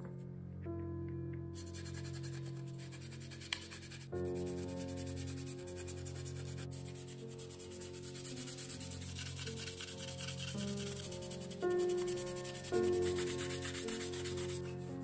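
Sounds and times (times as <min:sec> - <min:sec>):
soft background music: 0:00.0 - 0:15.0
sanding sponge rubbing plastic: 0:01.6 - 0:14.8.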